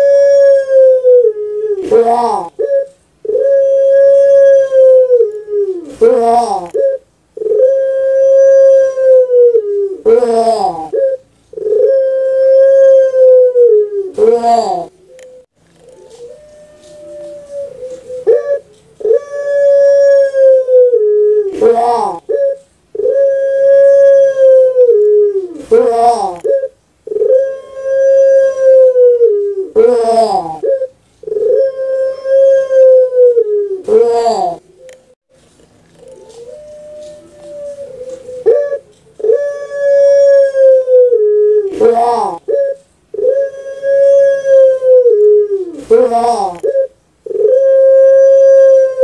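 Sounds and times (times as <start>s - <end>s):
dove cooing: 0.0s - 35.2s, 35.8s - 49.0s.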